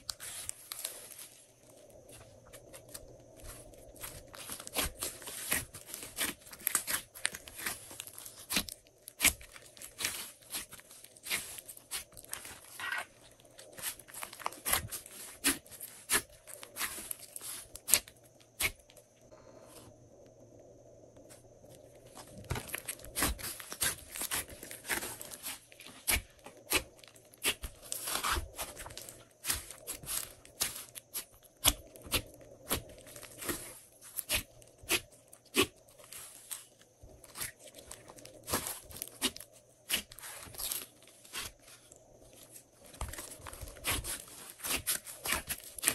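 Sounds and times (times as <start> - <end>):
slime squishing by hand: 0.0 - 19.0, 22.0 - 45.9.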